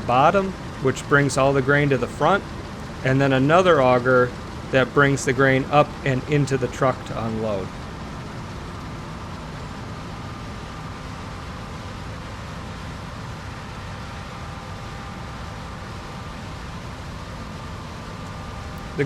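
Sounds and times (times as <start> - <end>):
diesel machinery engine drone: 0.0 - 19.0.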